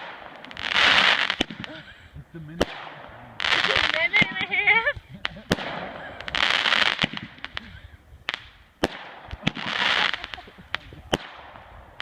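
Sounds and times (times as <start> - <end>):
fireworks bangs: 0.0 - 12.0
fireworks crackling bursts: 0.0 - 12.0.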